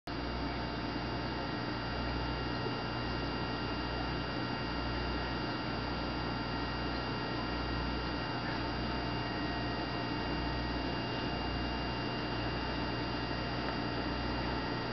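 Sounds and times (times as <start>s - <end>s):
electrical hum: 0.1s - 14.9s.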